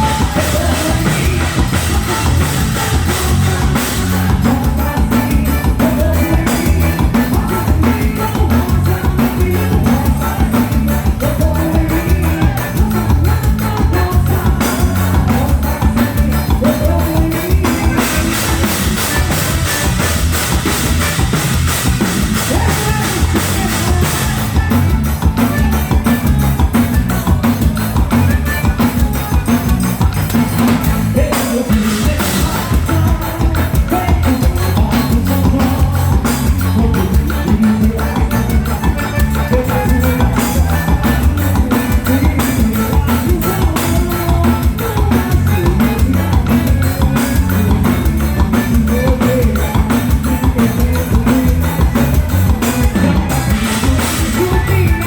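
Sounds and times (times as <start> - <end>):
band playing: 0.0 - 55.0
drum kit beat: 0.0 - 55.0.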